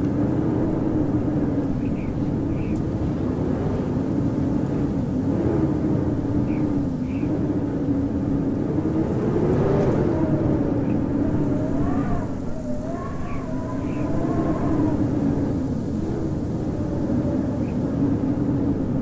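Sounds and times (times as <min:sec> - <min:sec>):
howling wind: 0:00.0 - 0:19.0
whistling wind tone: 0:00.0 - 0:19.0.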